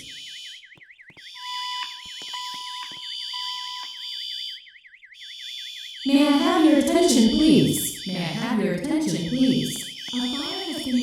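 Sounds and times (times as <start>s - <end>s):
steady alarm tone: 0.0s - 11.0s
warbling fire alarm tone: 0.0s - 11.0s.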